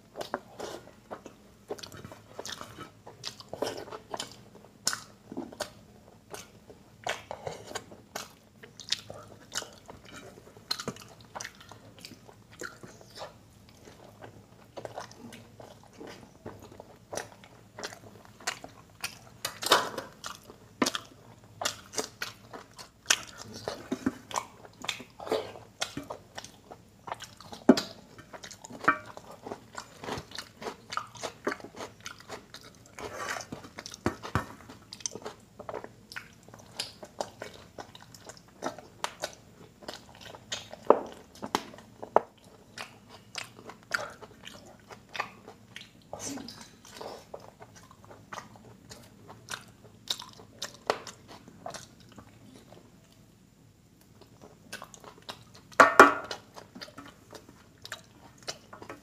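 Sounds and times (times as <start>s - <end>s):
wet chewing and lip smacks: 1.1s - 53.2s, 54.0s - 59.0s.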